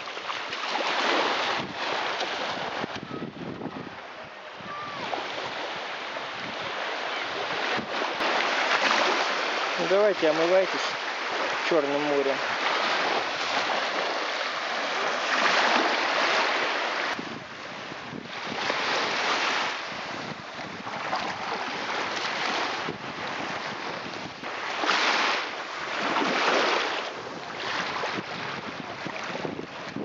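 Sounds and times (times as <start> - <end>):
wind on microphone: 0.0 - 9.6, 10.9 - 30.0
waves washing over sand: 0.0 - 30.0.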